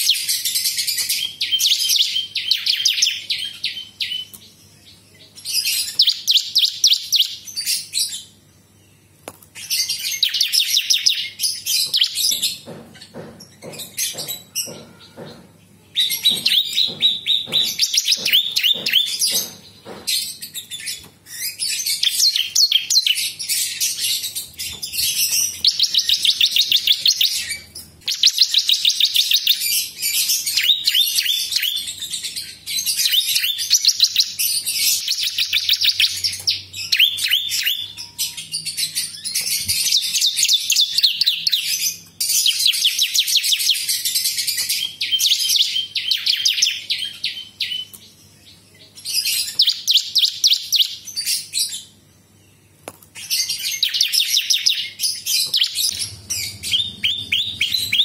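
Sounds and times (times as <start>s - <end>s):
bird singing rattling trills: 0.0s - 58.0s.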